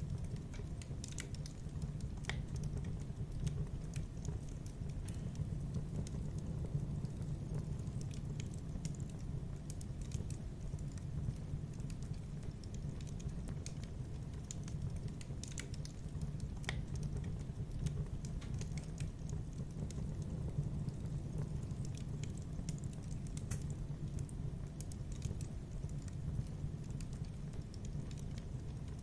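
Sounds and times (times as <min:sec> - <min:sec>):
low rumble of flames: 0:00.0 - 0:29.0
wood fire crackling: 0:00.0 - 0:29.0.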